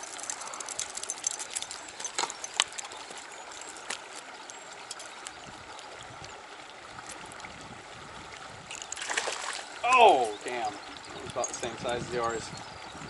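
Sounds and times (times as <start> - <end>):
stream water running: 0.0 - 13.0.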